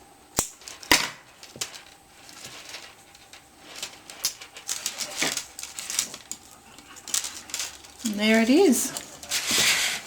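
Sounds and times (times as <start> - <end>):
light clicks and rustles: 1.4 - 9.7.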